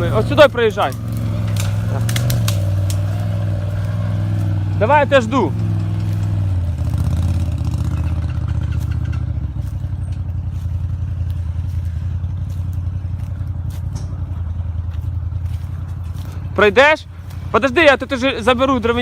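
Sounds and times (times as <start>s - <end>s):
buggy engine at low revs: 0.0s - 19.0s.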